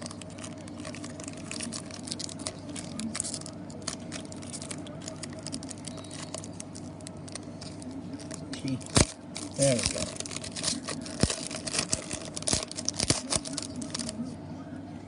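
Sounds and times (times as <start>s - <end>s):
cards clicking and rustling: 0.0s - 14.2s
steady low hum: 0.0s - 15.0s.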